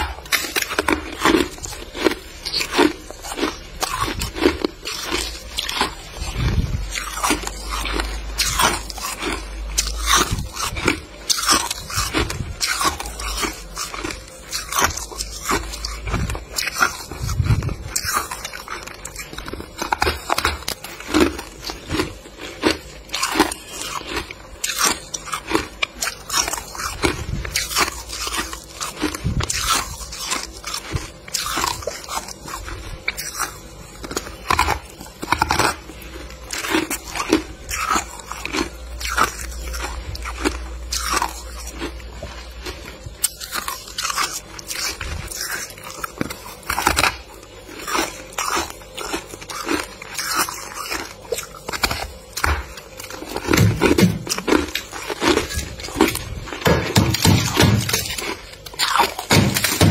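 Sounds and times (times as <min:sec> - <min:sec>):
person crunching frost: 0:00.0 - 0:59.9.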